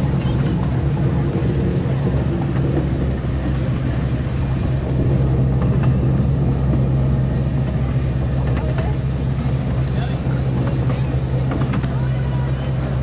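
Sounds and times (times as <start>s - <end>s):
carriages rumbling: 0.0s - 13.0s
miniature train droning: 0.0s - 13.0s.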